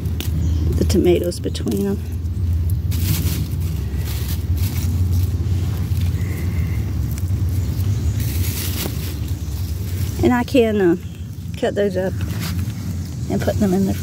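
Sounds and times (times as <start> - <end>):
leaves and mulch rustling: 0.0 - 14.0
low rumble: 0.0 - 14.0.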